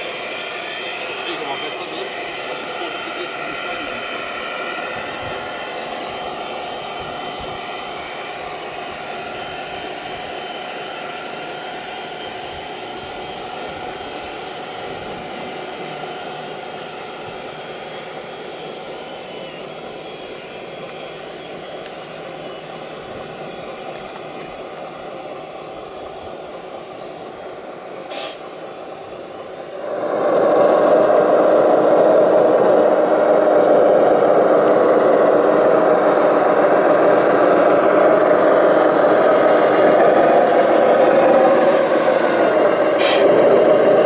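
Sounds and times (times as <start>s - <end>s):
electric motors whining: 0.0s - 44.0s.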